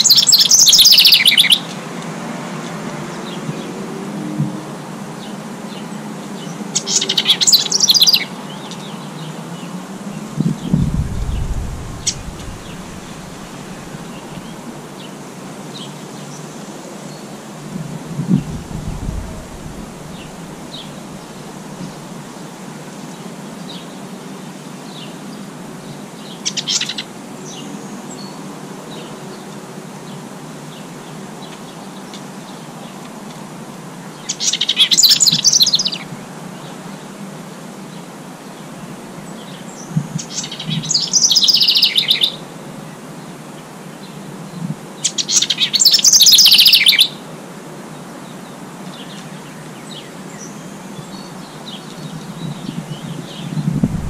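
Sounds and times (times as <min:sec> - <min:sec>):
songbird singing: 0:00.0 - 0:01.8, 0:04.7 - 0:33.1, 0:37.9 - 0:54.0
faint outdoor hiss: 0:00.0 - 0:54.0.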